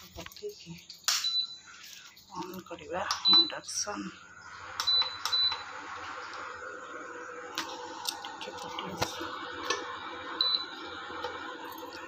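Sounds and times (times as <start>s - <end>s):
induction cooktop humming: 0.0s - 12.0s.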